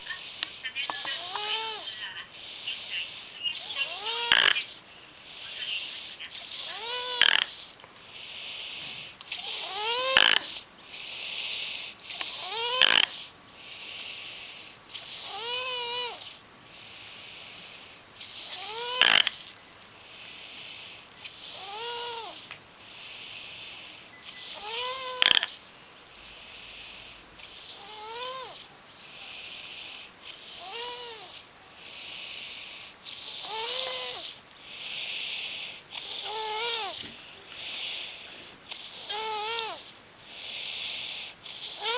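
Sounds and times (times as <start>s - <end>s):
girl snoring: 0.0s - 23.2s, 24.3s - 41.9s.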